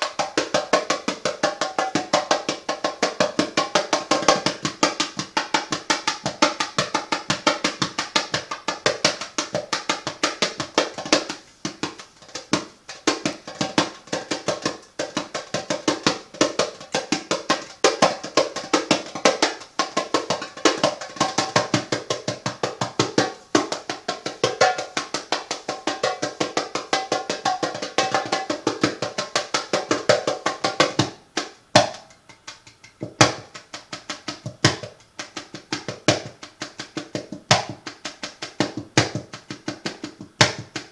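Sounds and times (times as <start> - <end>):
hand drum beating fast rhythm: 0.0 - 40.9.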